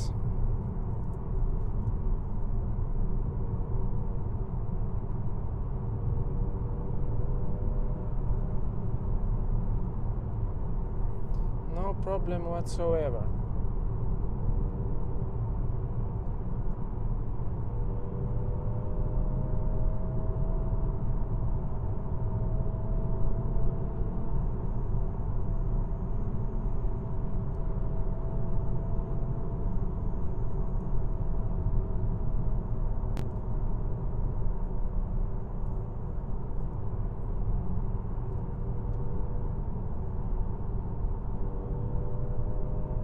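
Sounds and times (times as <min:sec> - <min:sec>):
road and wind noise in car cabin: 0:00.0 - 0:43.0.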